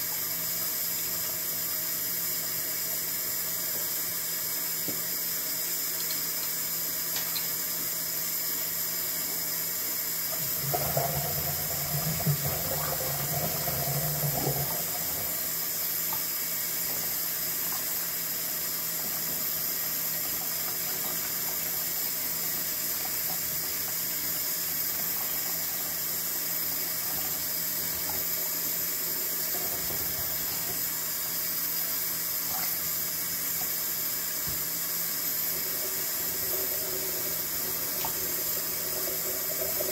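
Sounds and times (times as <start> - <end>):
faucet water splashing in sink: 3.8 - 39.9.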